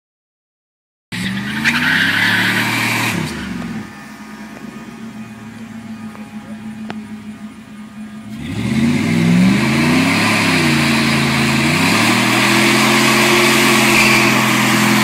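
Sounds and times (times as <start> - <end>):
engine revving: 1.1 - 15.0
tires squealing: 1.1 - 15.0.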